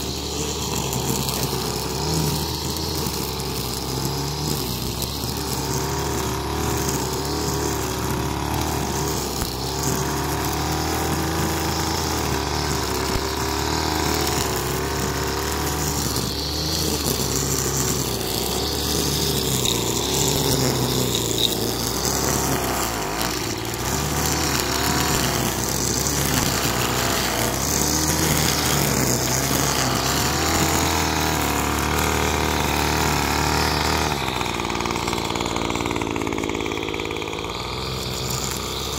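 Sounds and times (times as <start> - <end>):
string trimmer engine running: 0.0 - 38.9.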